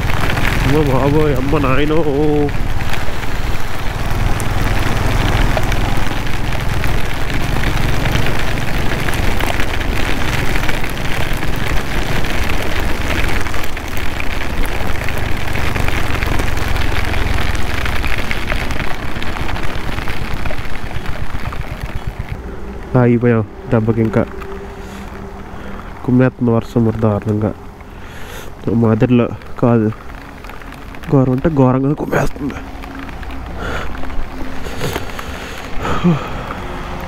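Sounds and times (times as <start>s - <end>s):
heavy rain hitting: 0.0s - 37.0s
wind and engine rumble: 0.0s - 37.0s.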